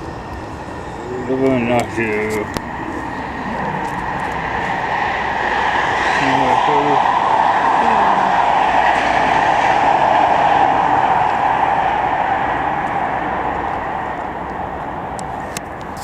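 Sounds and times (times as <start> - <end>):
loud steady rushing noise: 0.0 - 16.0.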